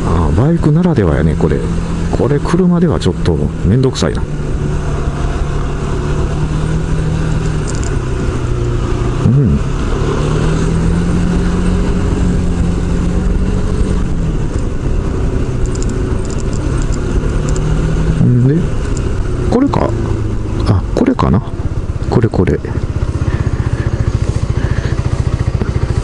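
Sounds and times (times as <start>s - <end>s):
road and wind noise: 0.0s - 26.0s
scooter engine running: 1.2s - 26.0s.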